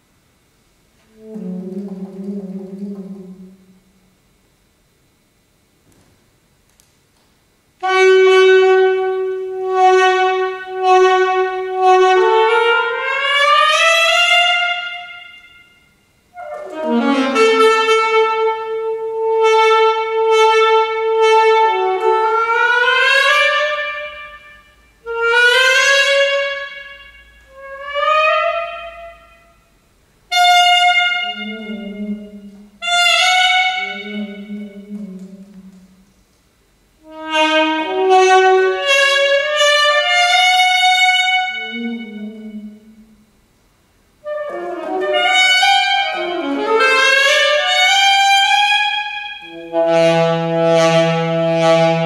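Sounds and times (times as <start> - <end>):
solo saxophone: 1.0 - 4.1, 7.8 - 36.4, 37.0 - 43.4, 44.1 - 52.0.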